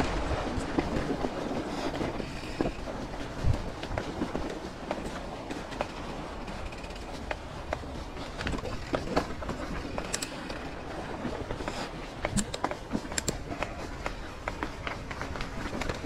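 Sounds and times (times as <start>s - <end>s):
bike rattling over bumps: 0.0s - 16.0s.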